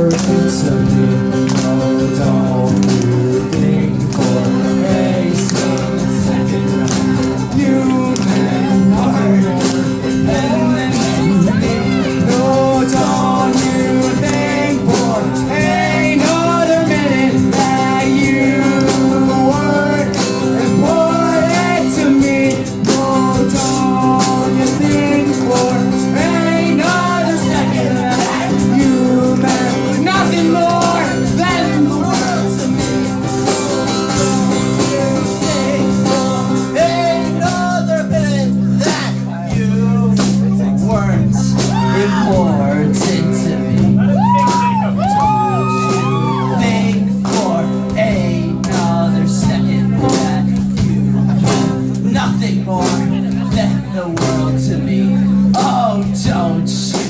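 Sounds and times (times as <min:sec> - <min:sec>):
band playing guitar song: 0:00.0 - 0:57.0.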